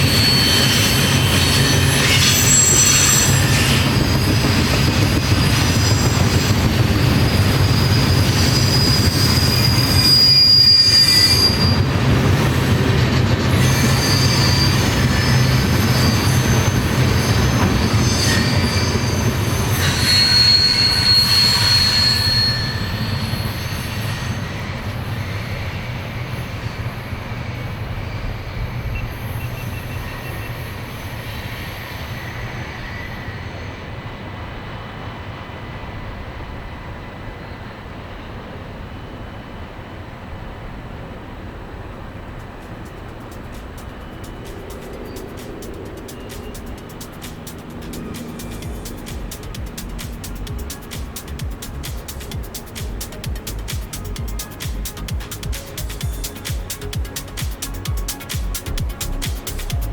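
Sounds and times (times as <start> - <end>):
train wheel squeals: 0.0 - 39.4, 41.8 - 59.9
freight train rumbling: 0.0 - 59.9.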